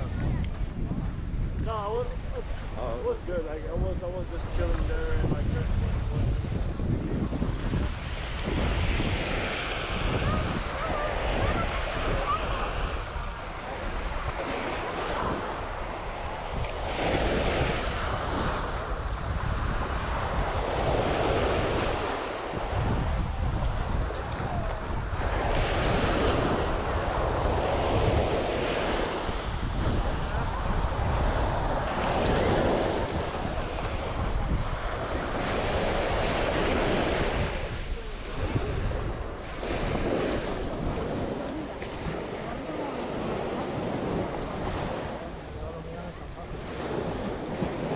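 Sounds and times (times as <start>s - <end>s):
waves breaking on beach: 0.0s - 47.9s
wind buffeting microphone: 0.0s - 47.9s.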